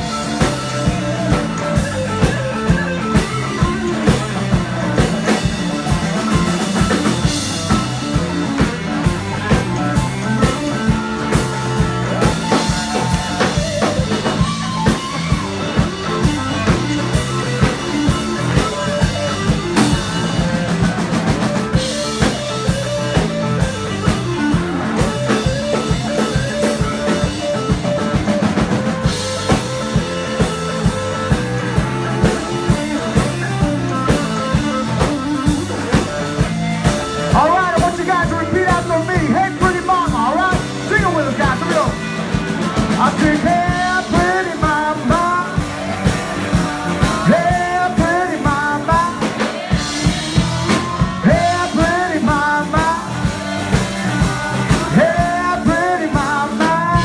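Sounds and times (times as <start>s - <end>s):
bass guitar: 0.0s - 57.0s
bending wavering lead guitar line: 0.0s - 57.0s
drum kit: 0.0s - 57.0s
electric guitar: 0.0s - 57.0s.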